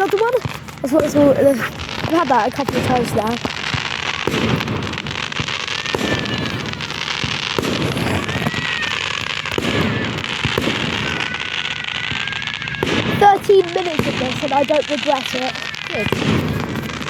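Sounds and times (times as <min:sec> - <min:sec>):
fireworks crackling and banging: 0:00.0 - 0:17.0.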